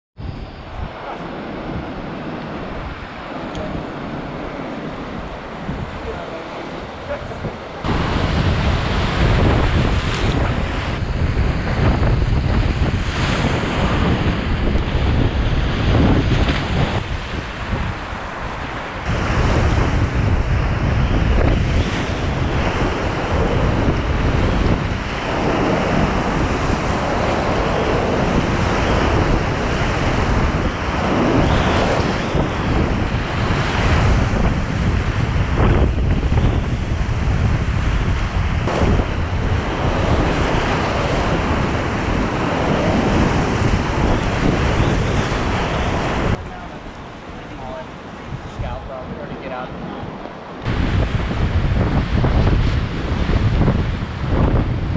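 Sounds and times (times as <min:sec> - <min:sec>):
wind buffeting microphone: 0:00.2 - 0:54.9.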